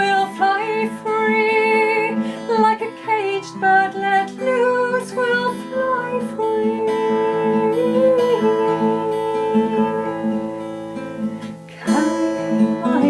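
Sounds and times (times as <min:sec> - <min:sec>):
woman singing: 0:00.0 - 0:10.8, 0:11.4 - 0:13.0
acoustic guitar strumming: 0:00.0 - 0:13.0.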